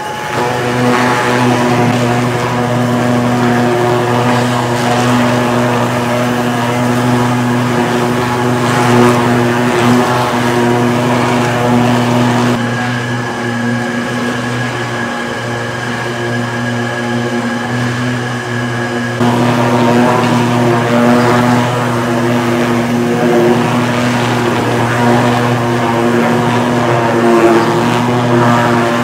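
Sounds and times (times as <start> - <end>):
high thin whine: 0.0 - 29.0
leather machine humming: 0.0 - 29.0.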